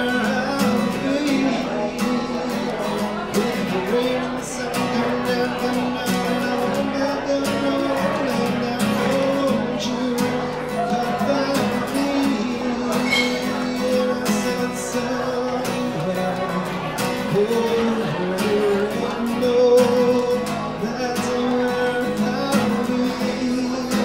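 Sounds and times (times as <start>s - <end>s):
man singing: 0.0s - 24.0s
strummed acoustic guitar: 0.0s - 24.0s.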